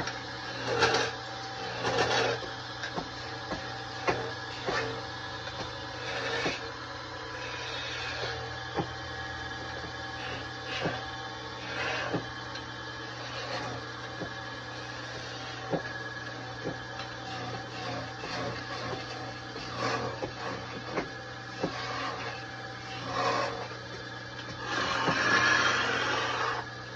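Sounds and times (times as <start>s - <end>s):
chisel scraping spinning wood: 0.0s - 26.9s
wood lathe humming: 0.0s - 26.9s.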